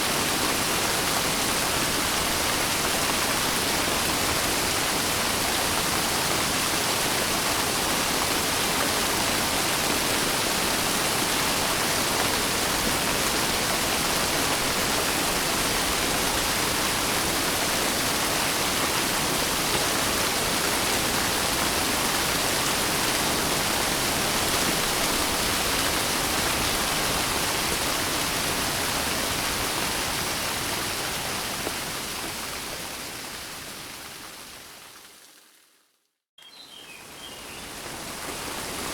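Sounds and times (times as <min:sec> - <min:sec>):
heavy rain: 0:00.0 - 0:34.9, 0:37.0 - 0:38.9.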